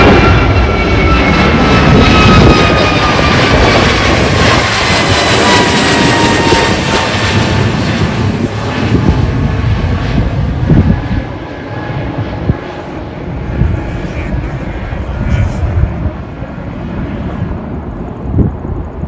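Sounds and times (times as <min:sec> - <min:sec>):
jet airliner taking off: 0:00.0 - 0:19.0.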